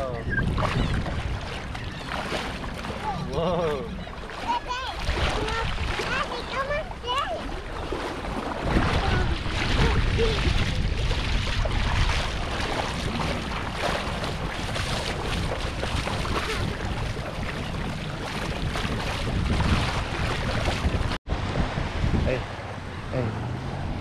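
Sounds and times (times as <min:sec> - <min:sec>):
wind rumble on microphone: 0:00.0 - 0:24.0
feet splashing through shallow water: 0:00.4 - 0:21.2.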